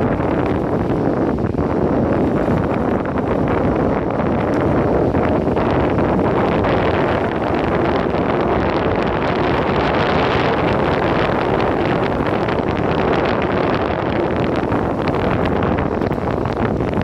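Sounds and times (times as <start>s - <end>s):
low rumble: 0.0s - 17.0s
wind buffeting microphone: 0.0s - 17.0s.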